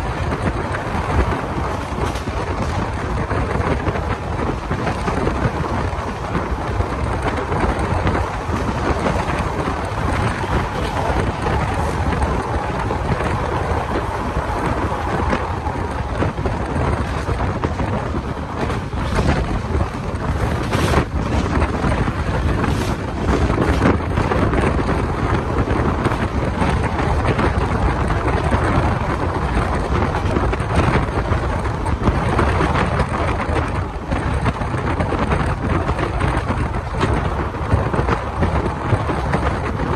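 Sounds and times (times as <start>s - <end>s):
train wheels rumbling on rails: 0.0s - 39.9s
wind buffeting microphone: 0.0s - 39.9s.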